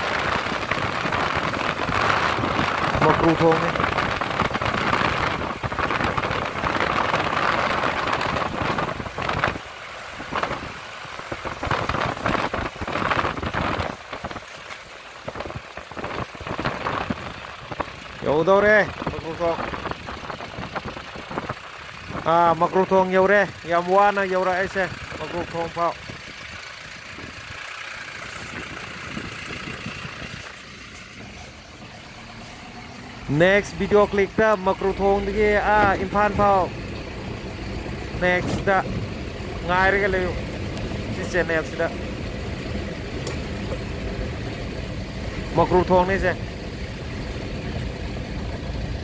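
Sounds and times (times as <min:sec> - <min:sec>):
vehicle driving on rough road: 0:00.0 - 0:49.0.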